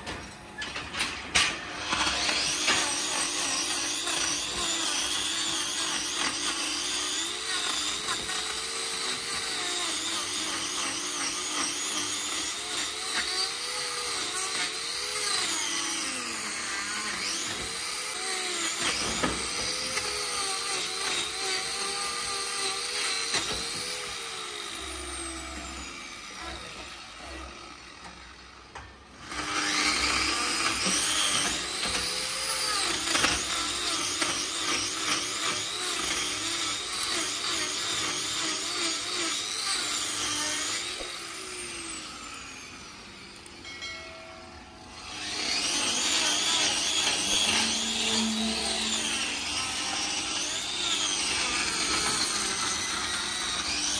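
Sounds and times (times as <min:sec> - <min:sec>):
electric grinder cutting hoof: 0:00.0 - 0:53.9.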